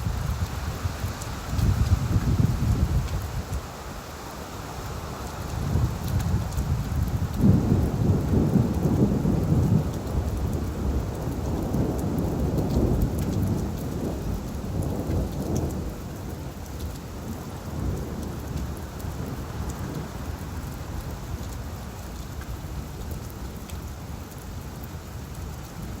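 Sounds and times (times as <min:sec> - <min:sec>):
low rumble of thunder: 0:00.0 - 0:03.6, 0:05.1 - 0:26.0
steady rain falling: 0:00.0 - 0:26.0
raindrop ticks: 0:00.1 - 0:02.4, 0:03.0 - 0:03.7, 0:05.2 - 0:26.0.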